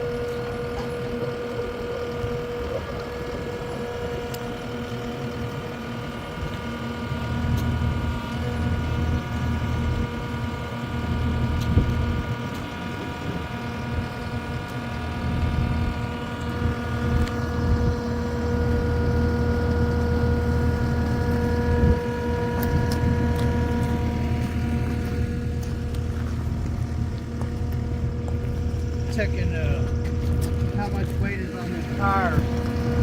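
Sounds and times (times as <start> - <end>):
large engine idling: 0.0 - 33.0.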